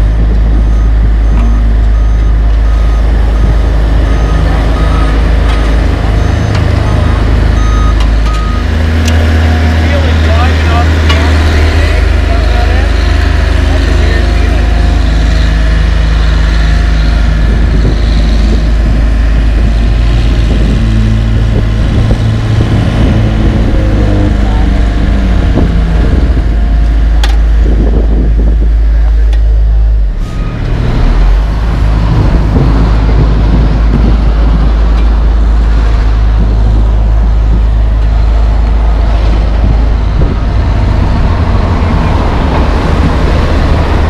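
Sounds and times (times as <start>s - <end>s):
diesel roller engine drone: 0.0s - 44.0s
passing highway traffic: 0.0s - 44.0s.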